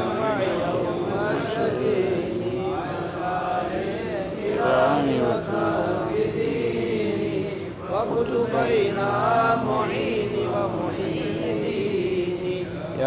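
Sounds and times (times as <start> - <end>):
slow devotional chant: 0.0 - 13.0.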